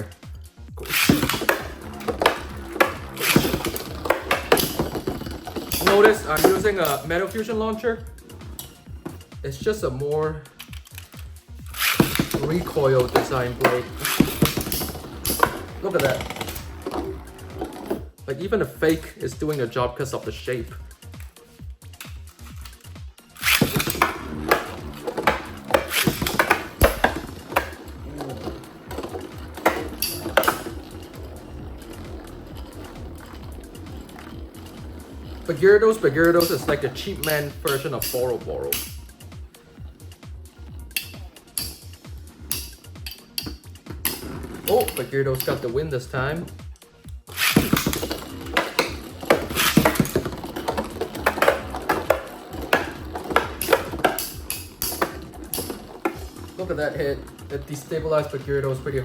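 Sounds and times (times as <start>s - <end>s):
spinning tops clashing: 0.8s - 9.4s, 10.6s - 18.0s, 21.1s - 45.7s, 47.3s - 59.0s.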